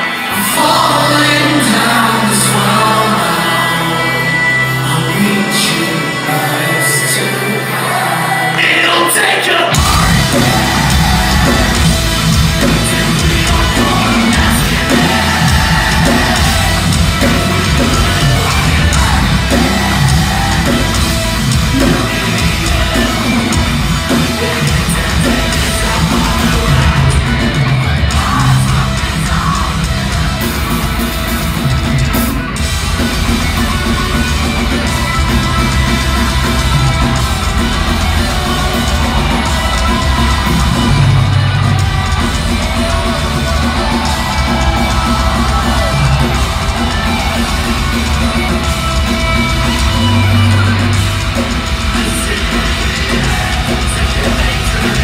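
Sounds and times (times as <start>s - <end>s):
distorted guitars: 0.0s - 55.0s
shouted vocals: 0.0s - 55.0s
bass and drums: 9.7s - 55.0s.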